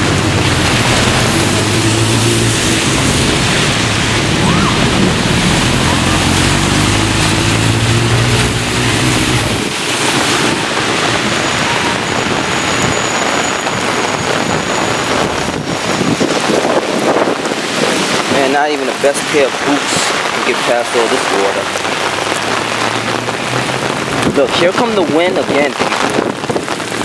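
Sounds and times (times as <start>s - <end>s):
wind buffeting microphone: 0.0s - 18.4s, 21.6s - 27.0s
heavy rain pouring: 0.0s - 27.0s.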